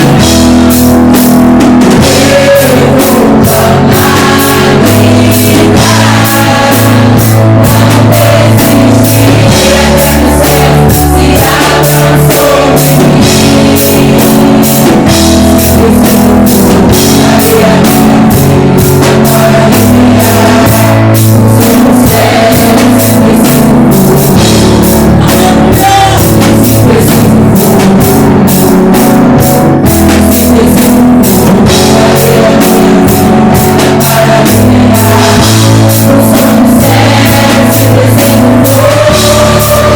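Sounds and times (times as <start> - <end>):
bass guitar: 0.0 - 39.9
drum kit steady beat: 0.0 - 39.9
guitar: 0.0 - 39.9.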